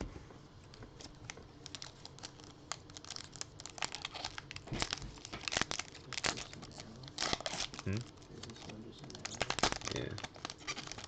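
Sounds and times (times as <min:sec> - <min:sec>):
card pack wrapper crinkling: 0:01.0 - 0:11.0.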